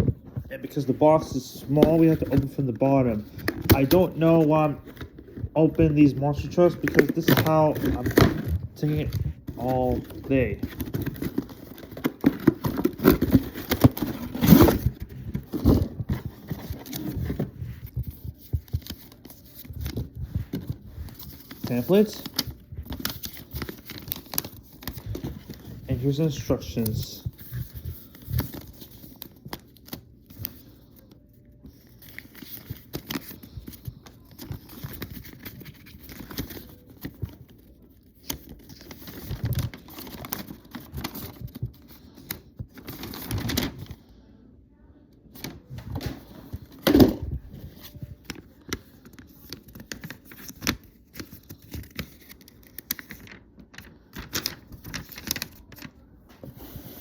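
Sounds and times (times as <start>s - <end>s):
cardboard and plastic rustling: 0.0s - 44.1s, 45.3s - 57.0s.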